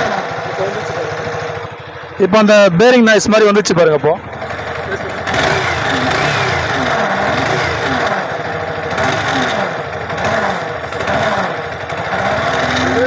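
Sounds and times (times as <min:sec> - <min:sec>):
motorcycle engine grinding noise: 0:00.0 - 0:13.0.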